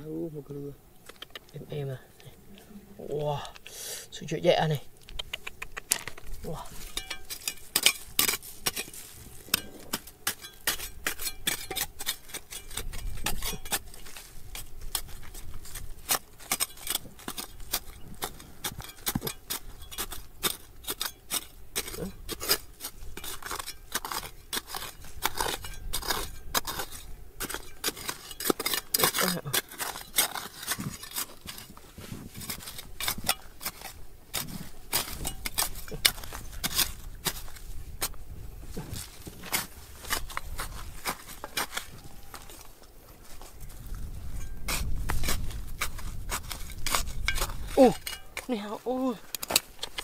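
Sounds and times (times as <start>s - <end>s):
hand tools scraping on rock: 5.2s - 50.0s.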